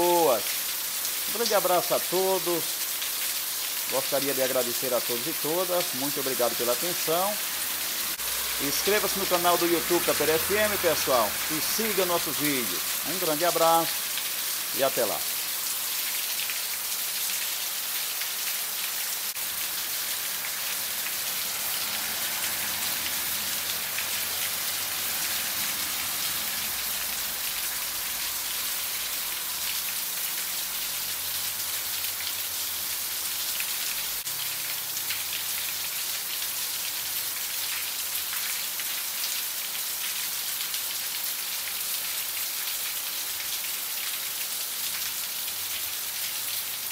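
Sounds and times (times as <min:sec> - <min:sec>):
heavy rain on pavement: 0:00.0 - 0:46.9.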